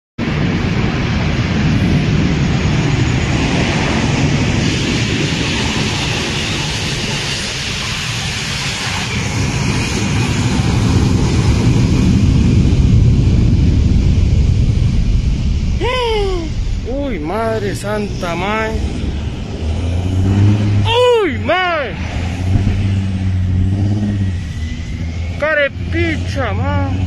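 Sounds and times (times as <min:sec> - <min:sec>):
jet engines roaring: 0:00.2 - 0:27.0.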